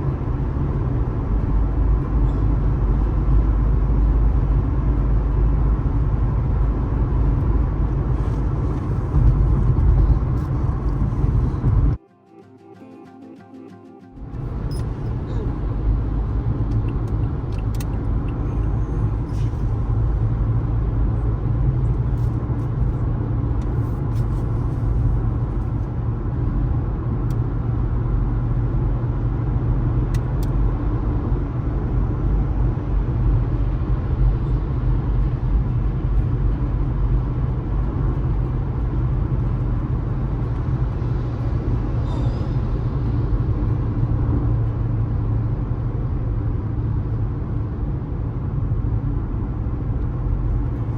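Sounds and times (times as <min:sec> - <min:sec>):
car engine and tyre rumble: 0:00.0 - 0:12.0, 0:14.2 - 0:50.9.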